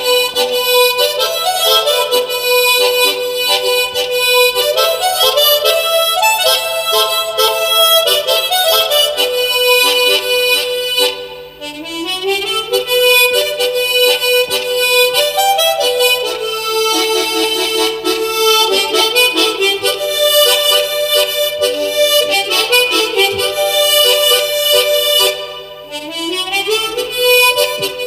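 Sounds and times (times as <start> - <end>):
harmonica melody: 0.0 - 28.0.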